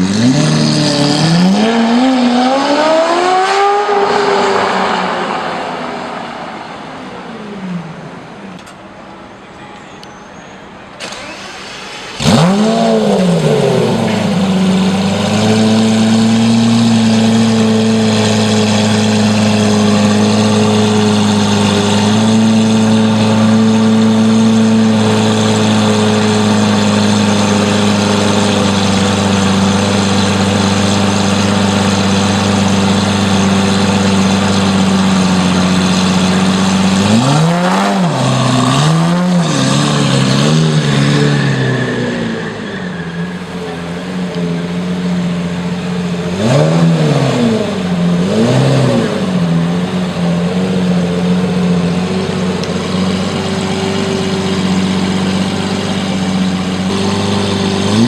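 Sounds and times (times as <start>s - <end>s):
sports car engine revving: 0.0s - 8.3s, 11.0s - 58.0s.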